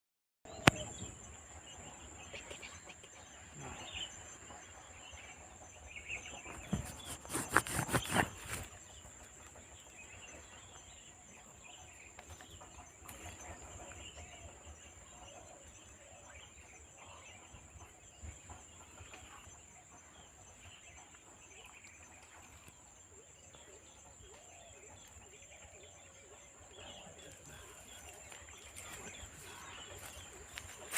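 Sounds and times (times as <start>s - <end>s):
bird calls: 0.5s - 30.9s.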